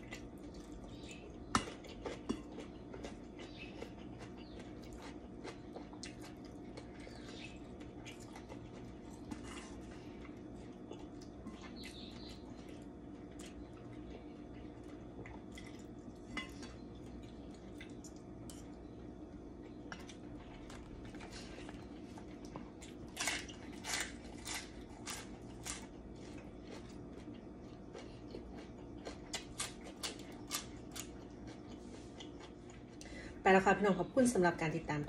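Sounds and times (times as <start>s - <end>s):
crunchy chewing: 0.0s - 33.2s
steady low hum: 0.0s - 35.0s.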